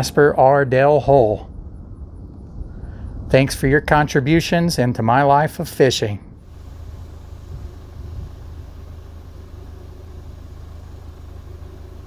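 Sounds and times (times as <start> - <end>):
low outdoor rumble: 0.0 - 12.0
faint hiss: 1.0 - 12.0.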